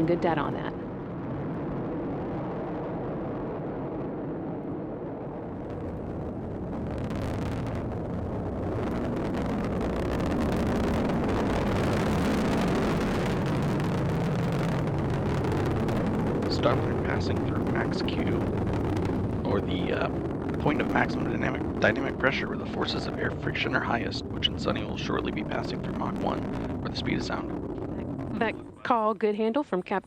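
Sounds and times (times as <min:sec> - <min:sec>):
rocket engine roaring: 0:00.0 - 0:29.2.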